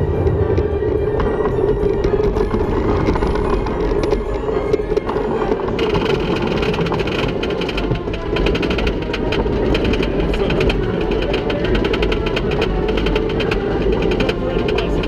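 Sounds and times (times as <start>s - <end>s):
lift chain drone: 0.0s - 15.0s
rapid mechanical clicking: 0.4s - 15.0s.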